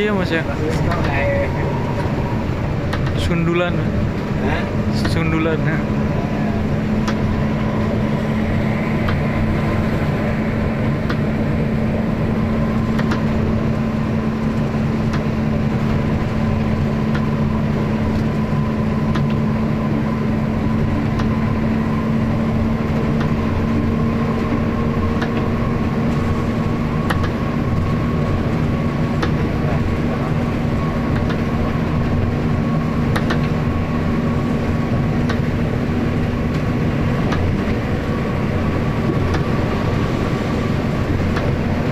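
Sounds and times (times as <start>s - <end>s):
bus engine drone: 0.0s - 41.9s
road noise on wet road: 0.0s - 41.9s.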